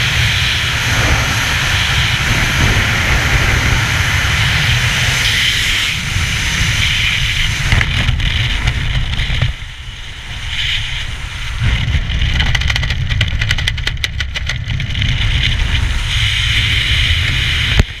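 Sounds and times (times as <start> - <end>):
heavy wind rumble: 0.0 - 18.0.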